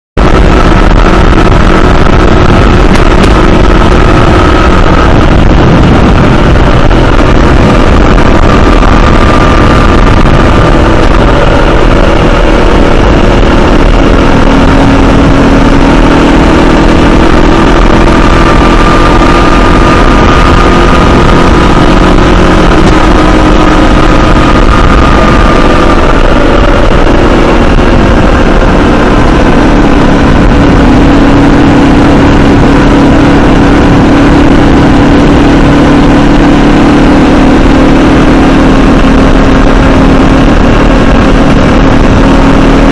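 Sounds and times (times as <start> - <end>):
motorcycle engine cruising: 0.2 - 42.9
wind rush: 0.2 - 42.9.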